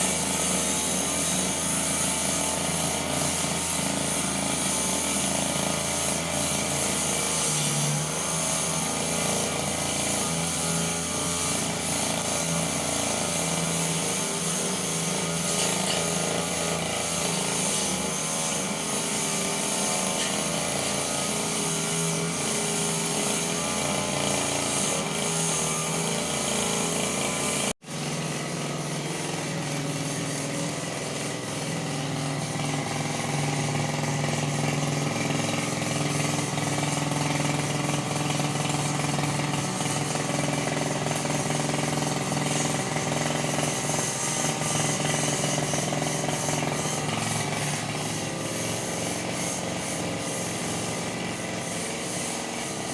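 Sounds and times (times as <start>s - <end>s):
brush cutter engine running: 0.0s - 52.9s.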